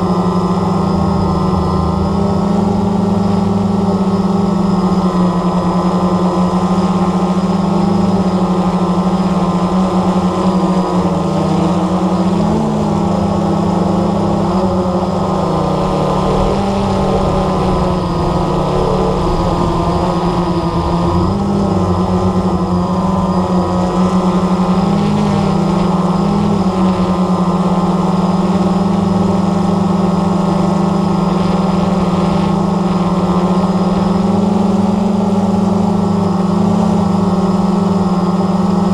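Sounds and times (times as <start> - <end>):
quadcopter motors buzzing: 0.0 - 38.9.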